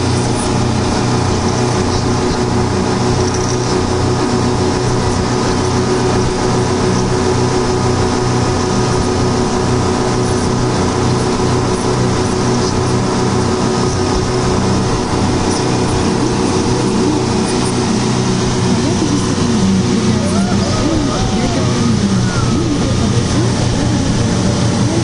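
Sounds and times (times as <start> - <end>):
outboard motor running: 0.0 - 25.0
water rushing in wake: 0.0 - 25.0.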